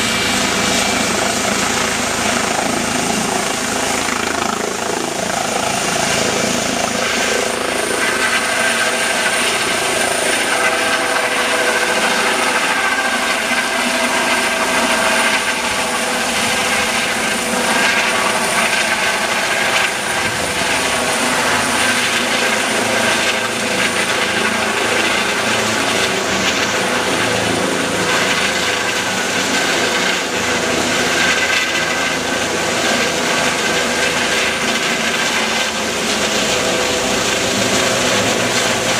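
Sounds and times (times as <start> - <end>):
helicopter turbine whine and rotor: 0.0 - 38.9.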